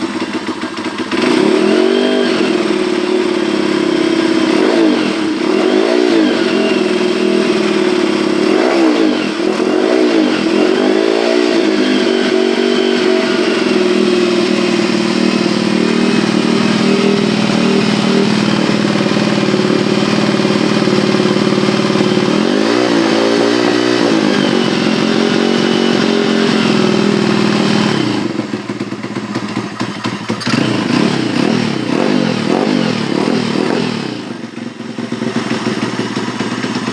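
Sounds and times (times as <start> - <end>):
motorbike engine revving: 0.0 - 36.9.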